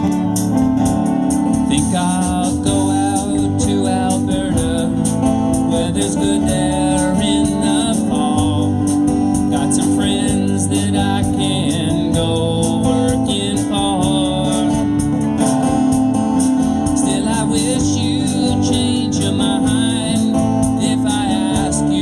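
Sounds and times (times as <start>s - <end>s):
live band playing country-folk: 0.0s - 22.0s.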